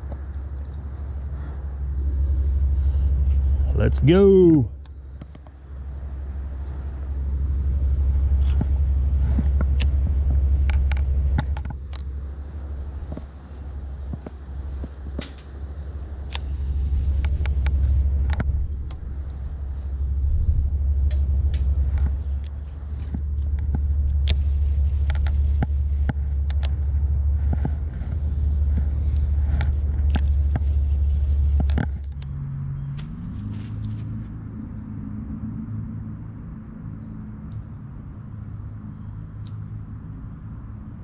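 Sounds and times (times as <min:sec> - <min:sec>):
low rumble: 0:00.0 - 0:41.0.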